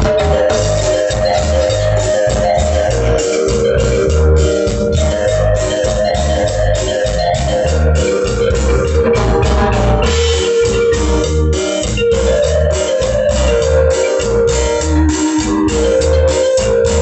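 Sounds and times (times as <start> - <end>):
instrumental music with steady beat: 0.0 - 17.0.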